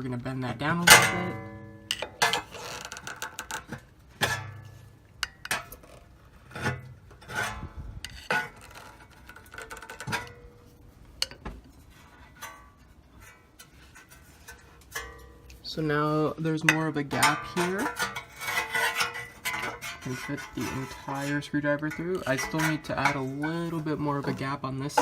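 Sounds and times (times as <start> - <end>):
screwdriver scraping sheet metal: 0.9 - 10.4, 11.2 - 15.3, 16.7 - 25.0.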